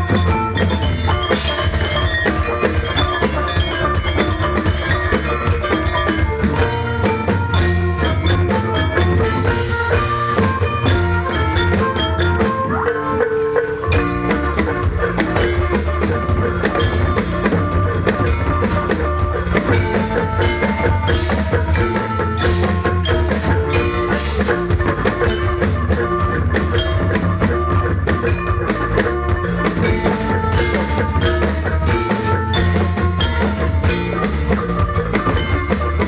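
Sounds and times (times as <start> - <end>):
strong bass: 0.0 - 12.5, 13.9 - 36.0
drums: 0.0 - 36.0
tuned mallet percussion: 0.0 - 36.0.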